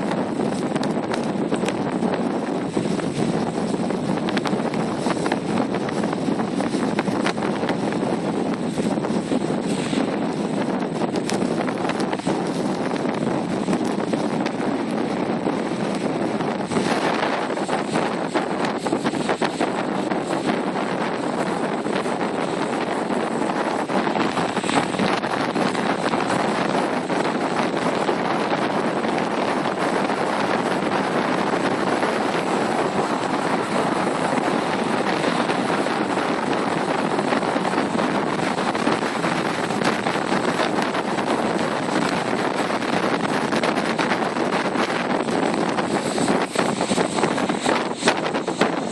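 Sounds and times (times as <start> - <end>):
strong wind blowing: 0.0 - 48.9.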